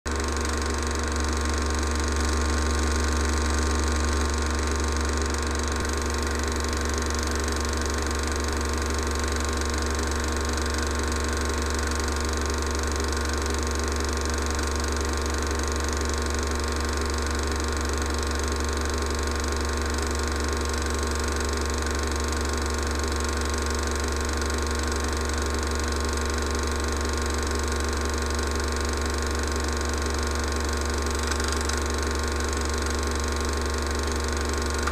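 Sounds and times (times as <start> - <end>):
film projector whirring: 0.1 - 34.9.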